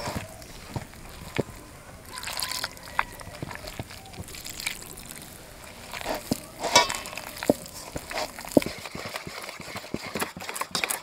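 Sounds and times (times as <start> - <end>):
batter being mixed in a bowl: 0.0 - 11.0.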